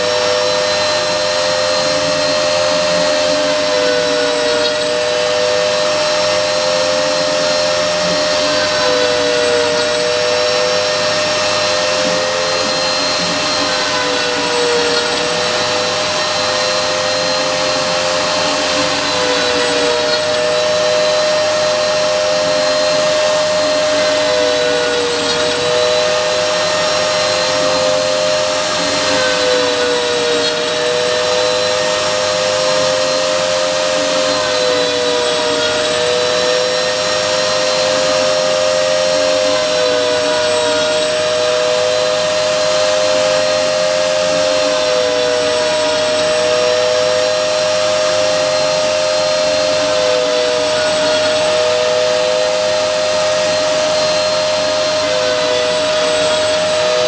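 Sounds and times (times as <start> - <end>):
router spindle whining: 0.0 - 57.0.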